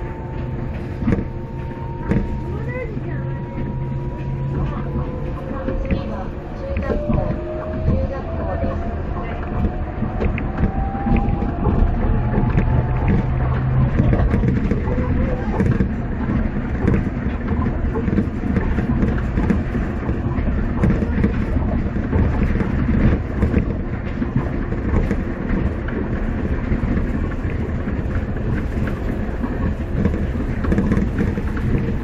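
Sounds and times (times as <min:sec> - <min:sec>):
people-mover car running on guideway: 0:00.0 - 0:32.0.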